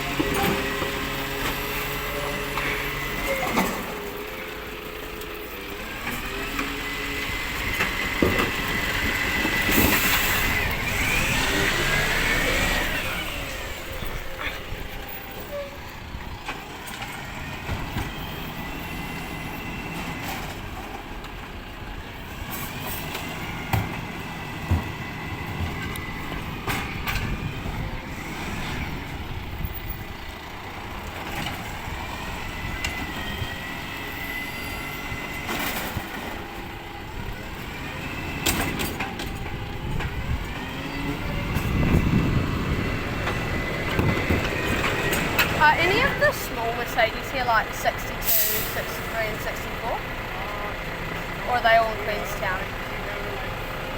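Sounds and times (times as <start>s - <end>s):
truck engine rumble: 0.0s - 53.9s.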